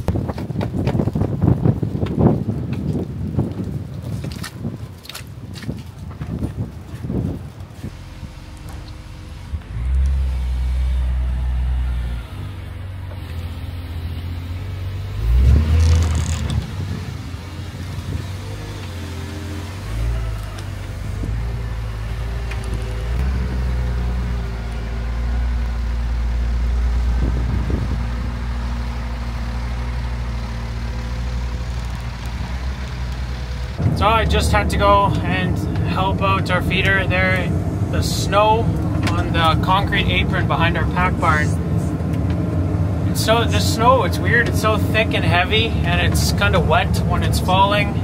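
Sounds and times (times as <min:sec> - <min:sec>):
diesel engines revving under load: 0:06.4 - 0:48.0.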